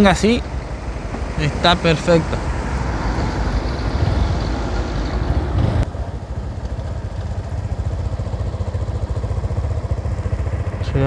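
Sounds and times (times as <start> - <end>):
rushing wind and road noise: 0.0 - 10.9
motorcycle engine: 0.0 - 11.0.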